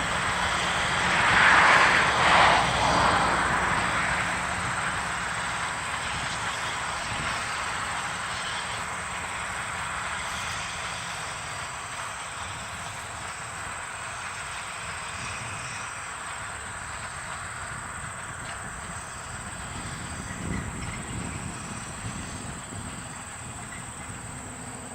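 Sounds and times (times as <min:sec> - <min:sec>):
train rolling on track: 0:00.0 - 0:24.9.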